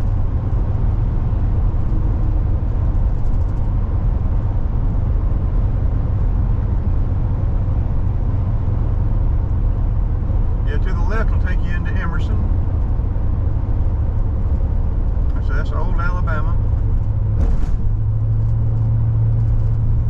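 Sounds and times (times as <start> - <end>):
car road noise from inside: 0.0 - 20.0.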